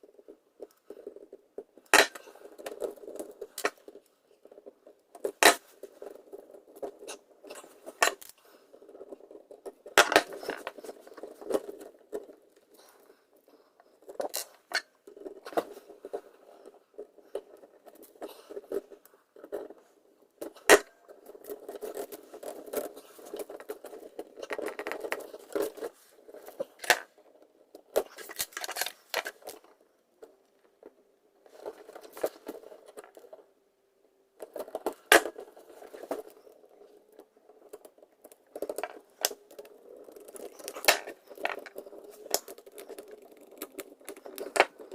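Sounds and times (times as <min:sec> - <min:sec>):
wires scraping and rubbing: 0:00.0 - 0:44.9.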